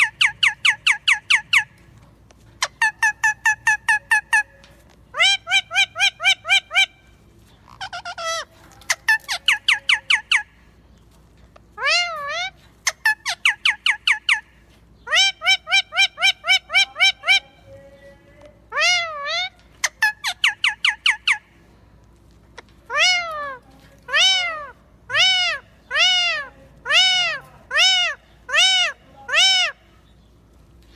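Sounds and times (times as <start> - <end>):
parrot calling: 0.0 - 1.8, 2.6 - 10.7, 11.8 - 17.8, 18.7 - 21.6, 22.8 - 30.2.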